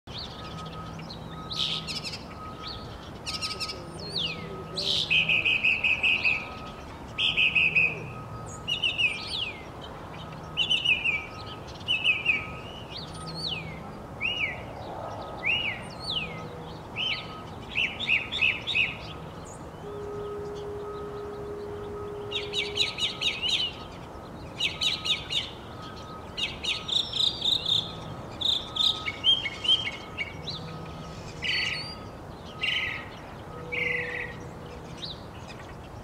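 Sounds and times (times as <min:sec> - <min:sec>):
mockingbird singing: 0:00.1 - 0:36.0.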